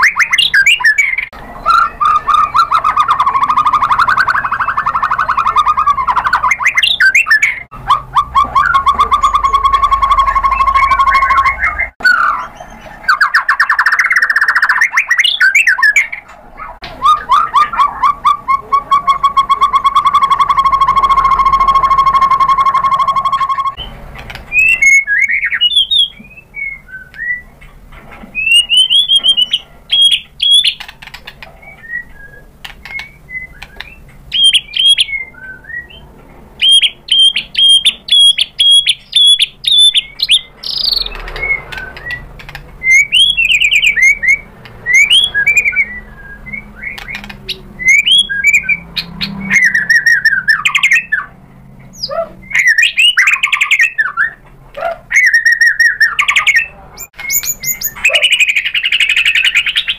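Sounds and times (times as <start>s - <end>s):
bird whistled song: 0.0s - 27.5s, 28.3s - 54.4s, 55.1s - 59.9s.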